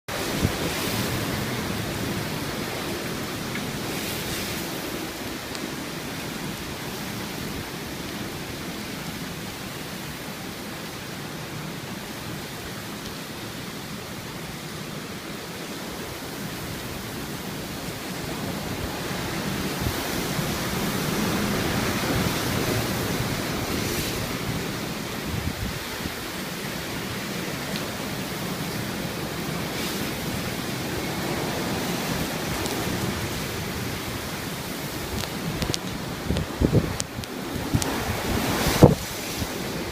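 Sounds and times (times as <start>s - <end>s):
driving rain: 0.1s - 39.9s
strong wind: 0.1s - 39.9s.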